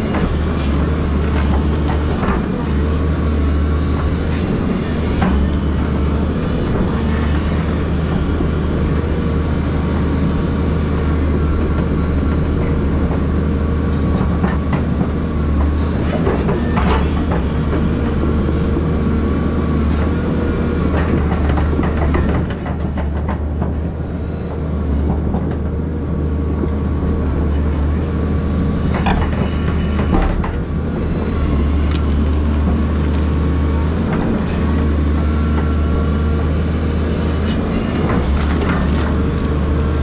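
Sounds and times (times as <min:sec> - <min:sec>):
excavator engine and hydraulics: 0:00.0 - 0:40.0.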